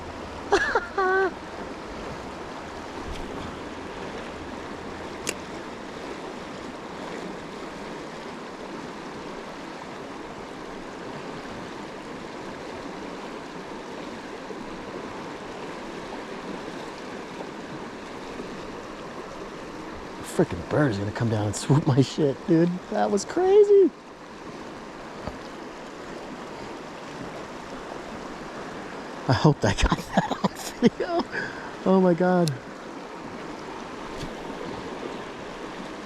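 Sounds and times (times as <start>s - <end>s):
stream flowing: 0.0s - 36.0s.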